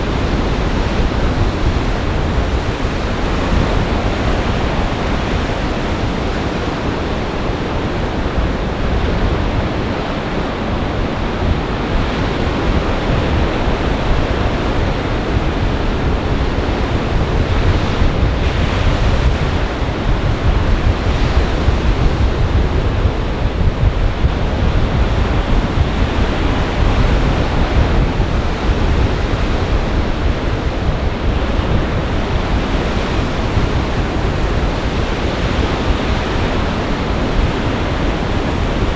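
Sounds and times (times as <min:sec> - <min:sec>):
waves breaking: 0:00.0 - 0:22.5, 0:24.3 - 0:38.9
wind buffeting microphone: 0:00.0 - 0:38.9.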